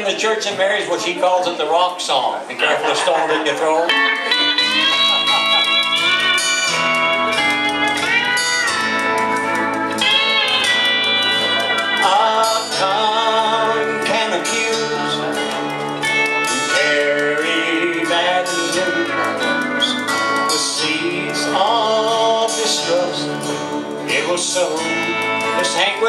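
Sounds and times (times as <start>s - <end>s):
live country band music: 0.0s - 26.0s.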